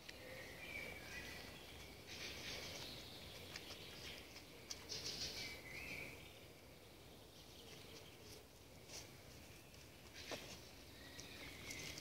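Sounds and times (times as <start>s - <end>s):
songbirds calling: 0.0s - 12.0s.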